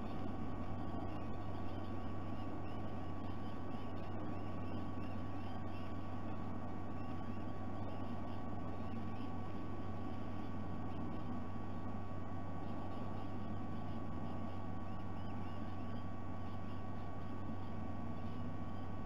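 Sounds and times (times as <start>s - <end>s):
electrical hum and hiss: 0.0s - 19.0s
faint high chirps: 0.0s - 19.0s.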